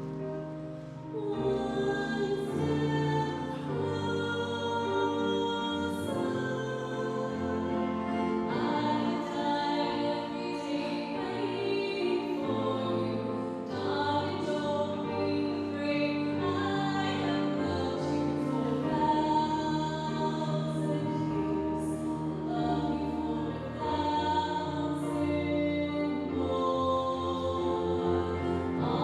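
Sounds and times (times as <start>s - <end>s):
choir singing sustained chords: 0.0s - 29.0s.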